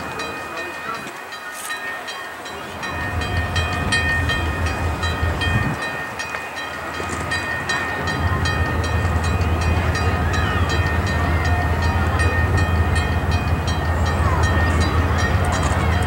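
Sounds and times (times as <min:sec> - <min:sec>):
diesel locomotive rumble: 0:02.4 - 0:16.0.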